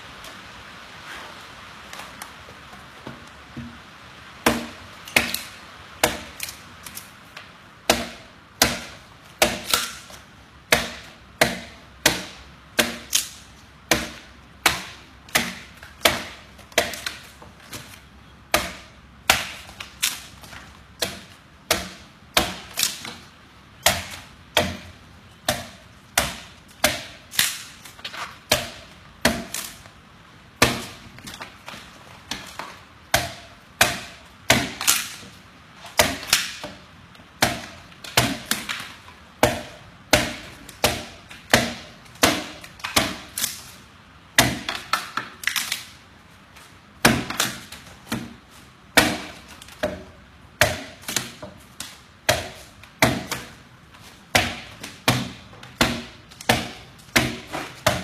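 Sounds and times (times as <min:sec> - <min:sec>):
adze chopping wood: 0:04.4 - 0:06.6, 0:07.8 - 0:29.9, 0:30.6 - 0:45.8, 0:47.0 - 0:53.6, 0:54.3 - 0:58.0.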